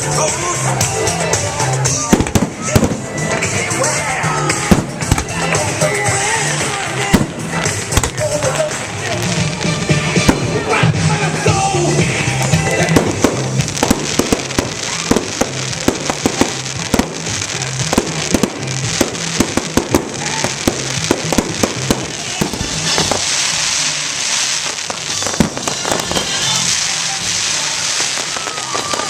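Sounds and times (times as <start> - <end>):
music with bass line: 0.0 - 28.7
fireworks bangs and pops: 0.0 - 29.0
fireworks crackling hiss: 0.0 - 29.0.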